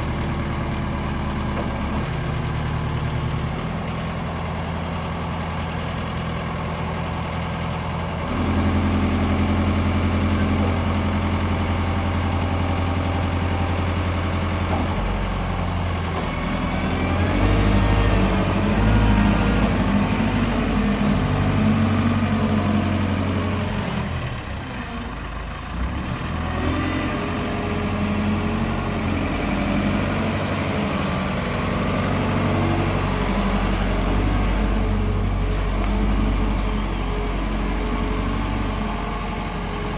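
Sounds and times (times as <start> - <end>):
forklift diesel engine running: 0.0 - 39.9.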